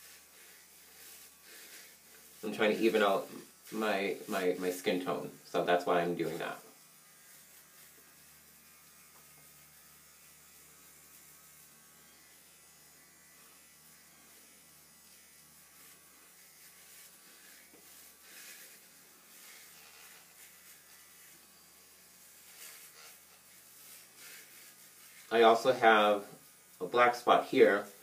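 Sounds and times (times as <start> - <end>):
facial cleansing brush buzzing: 0.0 - 28.0.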